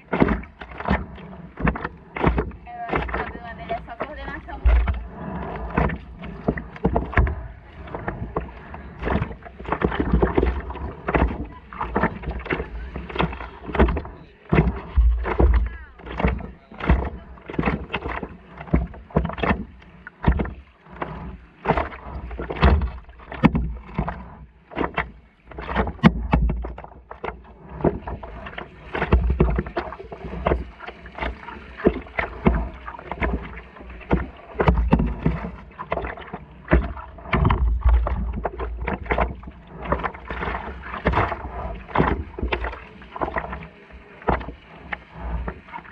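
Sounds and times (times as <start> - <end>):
water splashing against board: 0.0 - 45.9.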